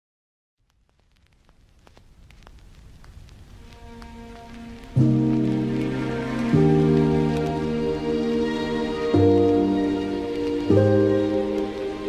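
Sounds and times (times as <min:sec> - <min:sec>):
crackling patter of ticks: 0:00.6 - 0:12.0.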